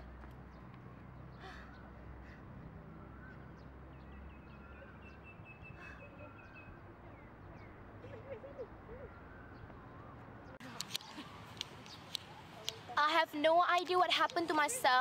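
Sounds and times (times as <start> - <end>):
birds chirping: 0.0 - 14.9
outdoor background noise: 0.0 - 15.0.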